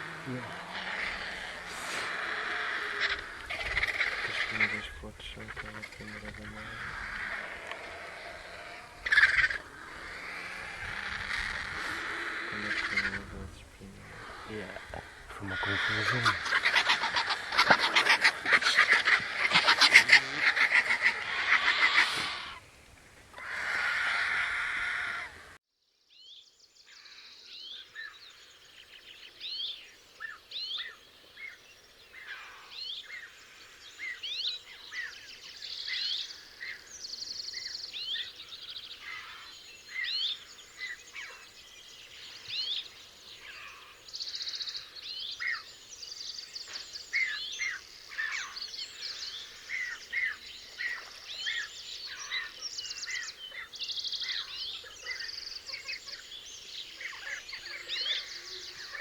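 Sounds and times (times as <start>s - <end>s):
faint outdoor hiss: 0.0s - 59.0s
songbirds chirping: 0.0s - 59.0s.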